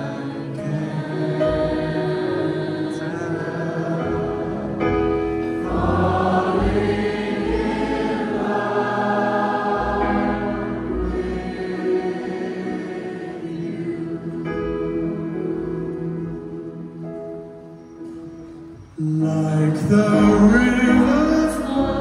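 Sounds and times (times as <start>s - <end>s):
audience singing in harmony: 0.0s - 22.0s.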